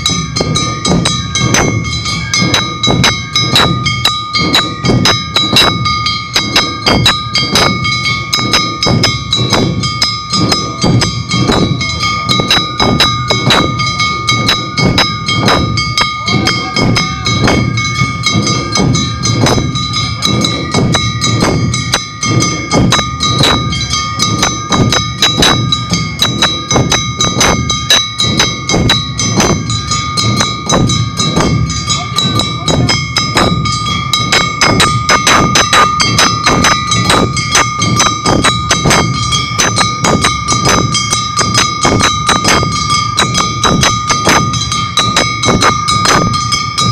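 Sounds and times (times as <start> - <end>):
drums and gongs striking: 0.0 - 46.9
held high tones: 0.0 - 46.9.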